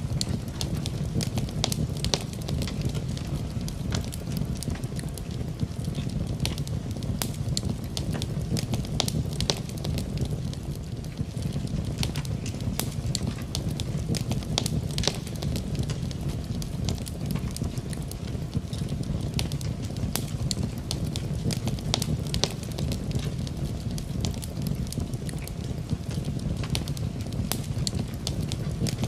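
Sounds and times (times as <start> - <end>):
soft hiss of rain: 0.0 - 29.0
wood fire crackling and popping: 0.0 - 29.0.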